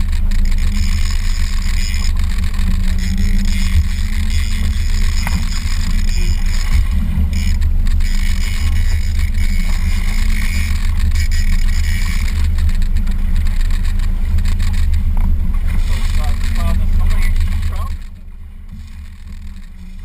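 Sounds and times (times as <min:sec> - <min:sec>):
boat motor droning: 0:00.0 - 0:20.0.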